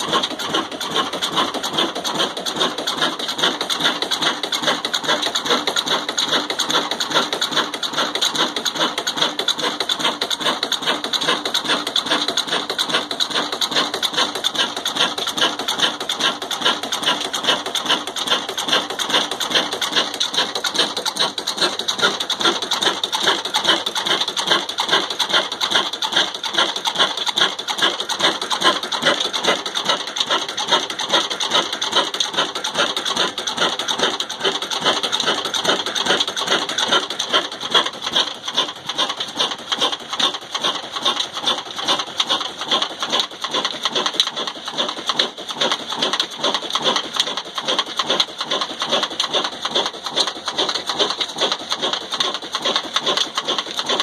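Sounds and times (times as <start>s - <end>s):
diesel engine clattering: 0.0s - 54.0s.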